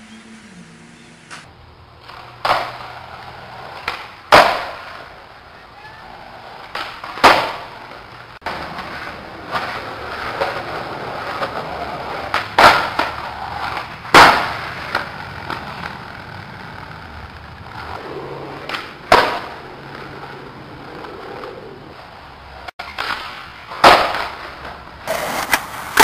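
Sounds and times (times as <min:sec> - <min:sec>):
skateboard wheels rolling on concrete: 0:00.0 - 0:26.0
skateboard popping and landing: 0:01.3 - 0:26.0.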